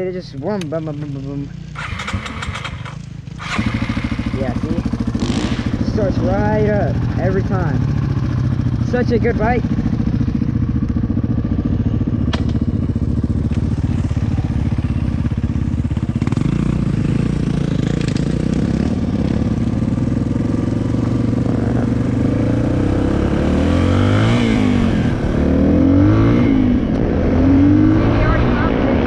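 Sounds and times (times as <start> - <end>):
trail bike engine puttering: 0.0 - 28.7.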